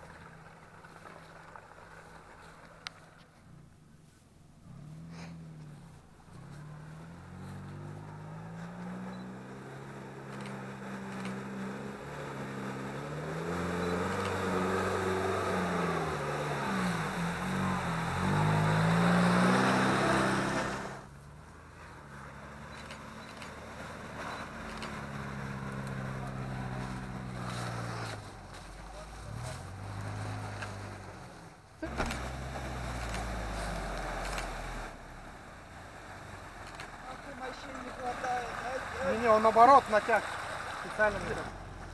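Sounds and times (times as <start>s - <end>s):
engine revving: 4.6s - 41.9s.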